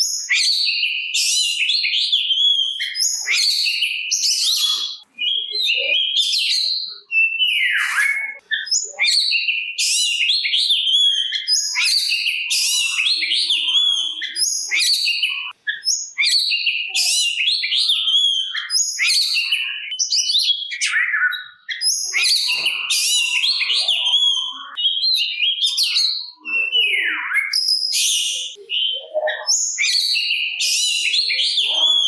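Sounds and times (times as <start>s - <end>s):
bird singing whistles and trills: 0.0s - 32.0s.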